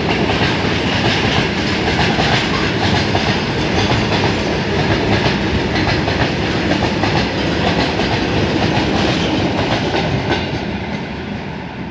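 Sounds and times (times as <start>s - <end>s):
train wheels clattering over rails: 0.0s - 11.5s.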